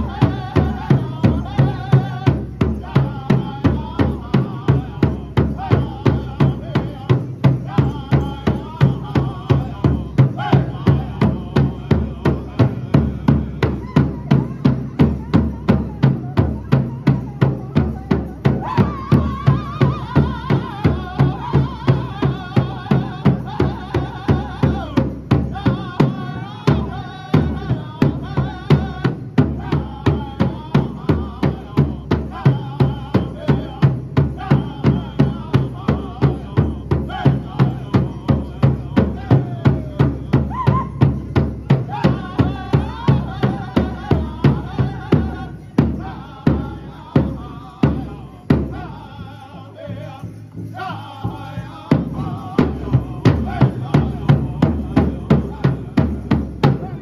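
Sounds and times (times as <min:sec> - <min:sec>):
high-pitched group singing: 0:00.0 - 0:57.0
large bass drum beat: 0:00.0 - 0:57.0.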